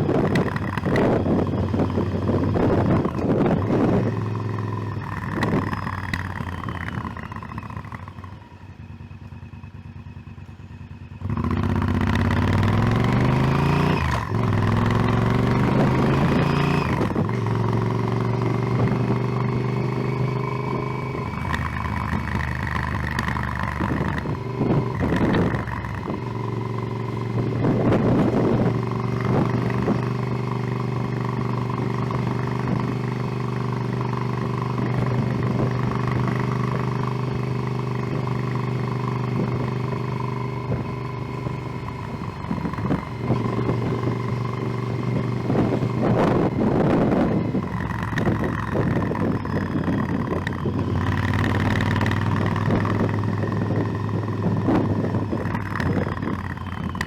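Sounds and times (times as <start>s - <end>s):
wind noise on microphone: 0.0s - 7.7s, 11.2s - 57.0s
motorcycle engine running: 0.0s - 57.0s.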